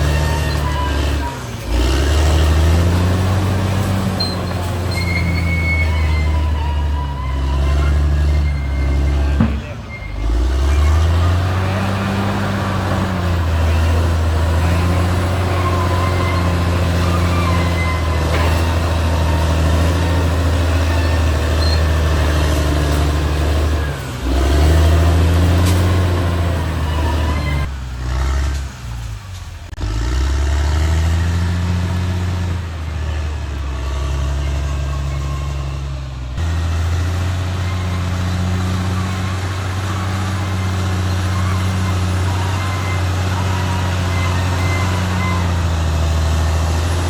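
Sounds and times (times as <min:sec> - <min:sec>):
bulldozer diesel engine working: 0:00.0 - 0:47.0.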